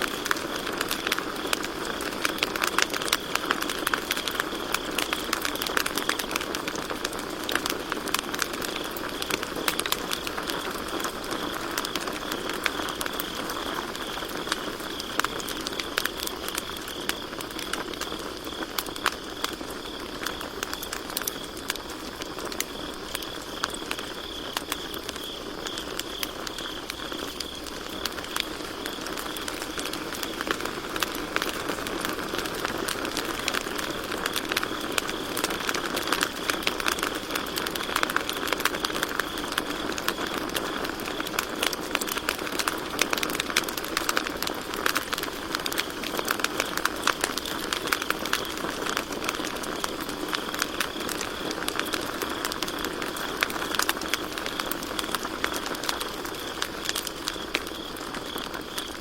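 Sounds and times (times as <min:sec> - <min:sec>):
campfire crackling and popping: 0:00.0 - 0:59.0
crickets chirping: 0:00.0 - 0:59.0.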